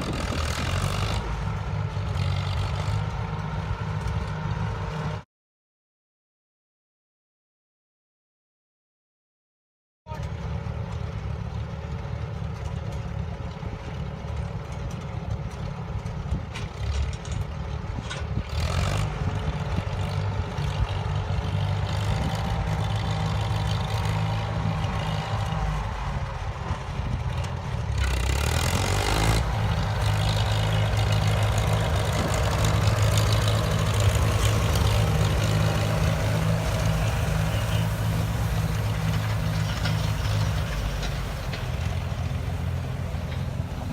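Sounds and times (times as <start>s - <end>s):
tractor engine running: 0.0s - 5.2s, 10.1s - 43.9s.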